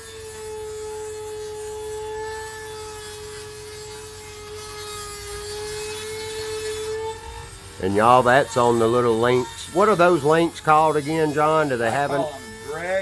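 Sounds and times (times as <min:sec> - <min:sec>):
rotary tool whining: 0:00.0 - 0:13.0.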